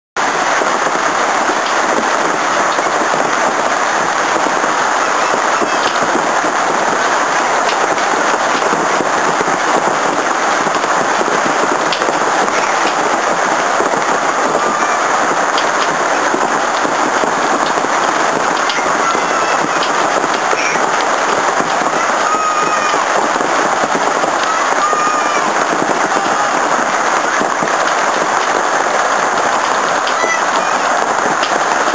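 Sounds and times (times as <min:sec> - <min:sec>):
hailstones pelting a deck: 0:00.2 - 0:31.9.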